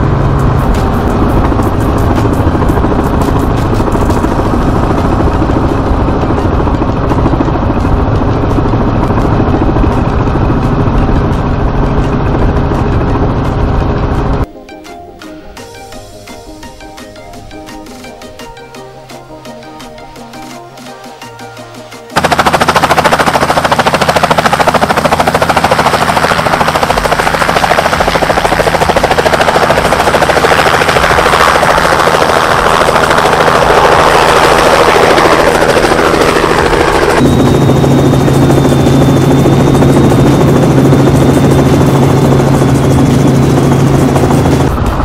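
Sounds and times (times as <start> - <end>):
helicopter rotor chop: 0.0 - 14.5, 16.5 - 45.0
helicopter cabin hum and whine: 0.0 - 45.0.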